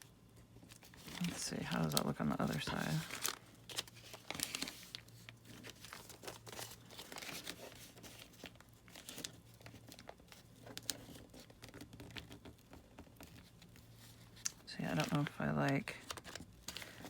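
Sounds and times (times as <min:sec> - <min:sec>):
paper rustling and crinkling: 0:00.4 - 0:17.0.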